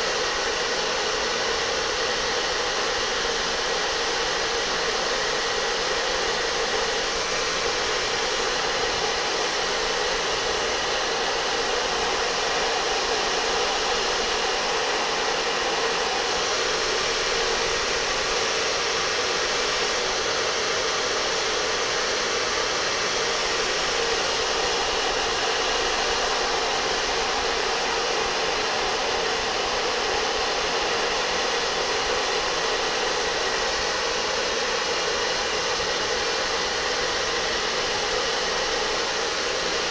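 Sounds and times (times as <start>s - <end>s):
air blower rushing: 0.0s - 39.9s.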